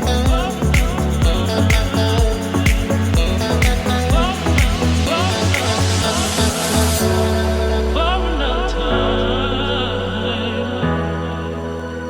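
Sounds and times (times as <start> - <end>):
pop music with steady beat: 0.0 - 12.0.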